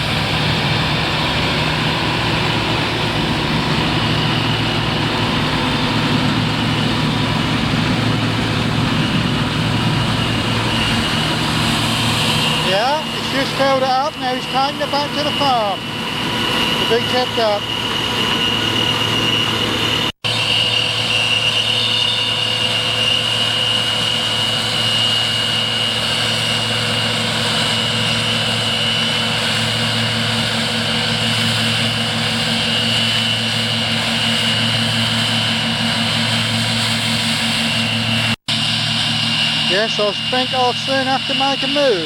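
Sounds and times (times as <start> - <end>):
diesel harvest machinery running: 0.0 - 42.0.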